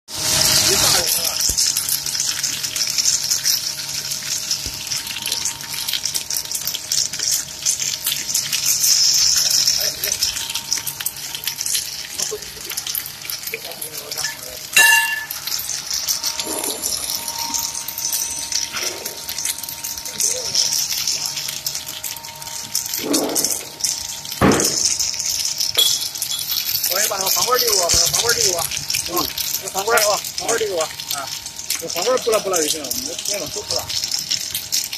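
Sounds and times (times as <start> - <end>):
extruder hiss and crackling: 0.2 - 34.9.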